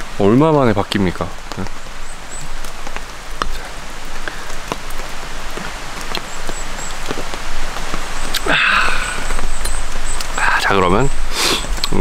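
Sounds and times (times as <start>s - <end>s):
rushing water: 0.0s - 12.0s
drip-like ticks and splashes: 0.3s - 12.0s.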